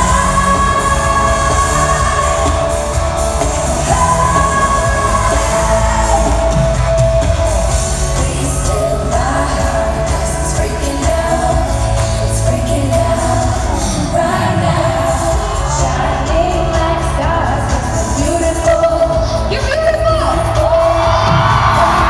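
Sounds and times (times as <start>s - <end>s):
live pop concert music: 0.0s - 22.0s.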